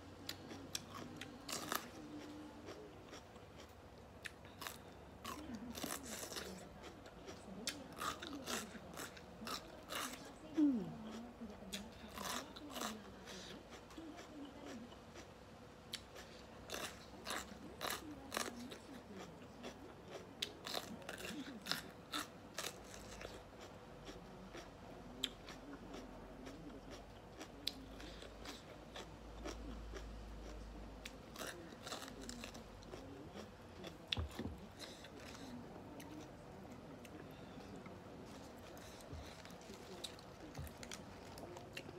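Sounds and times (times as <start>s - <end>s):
person chewing crunchy vegetable: 0.2s - 15.3s, 15.9s - 41.9s.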